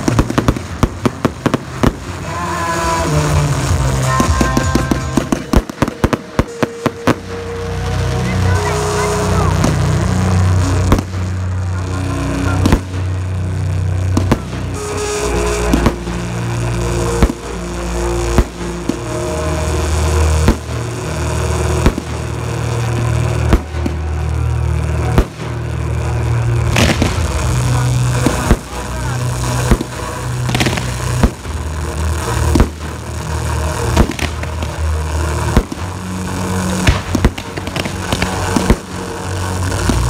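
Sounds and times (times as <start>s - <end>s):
fireworks bursting in bangs: 0.0s - 40.0s
low hum: 0.0s - 40.0s.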